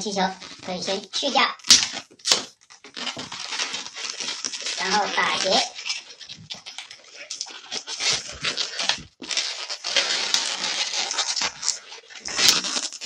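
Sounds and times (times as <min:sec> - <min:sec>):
balloons squeaking and rubbing: 0:00.0 - 0:13.0.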